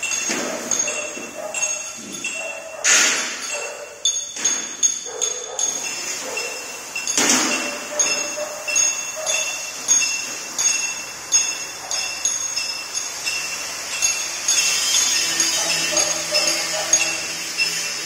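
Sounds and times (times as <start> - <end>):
metal being struck ringing: 0.0 - 18.0.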